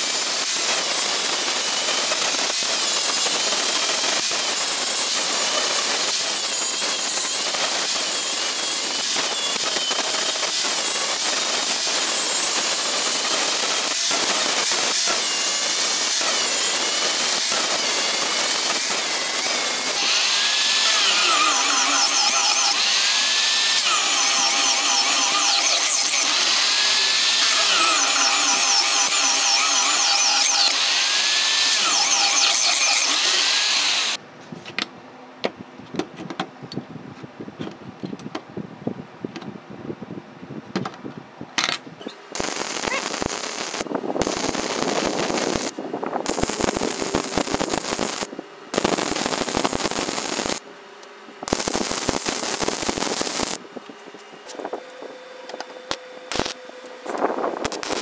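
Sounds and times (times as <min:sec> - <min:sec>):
power tool running: 0:00.0 - 0:34.2, 0:42.3 - 0:50.7, 0:51.4 - 0:53.7, 0:54.4 - 0:58.0.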